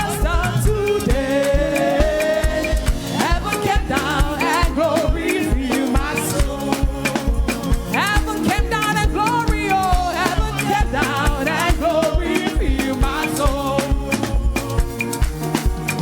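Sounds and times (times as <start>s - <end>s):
band playing gospel groove: 0.0s - 16.0s.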